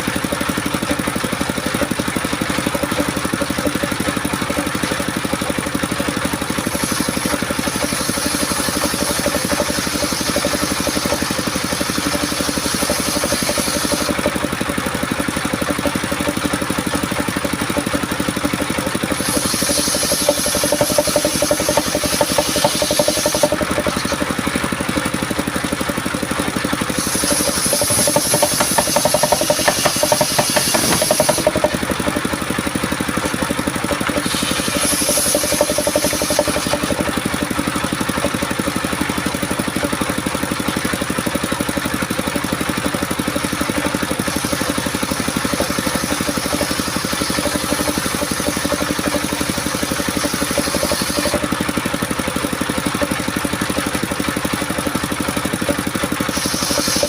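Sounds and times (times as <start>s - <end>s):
saw blade rasping through wood: 0.0s - 57.0s
sawmill engine running: 0.0s - 57.0s.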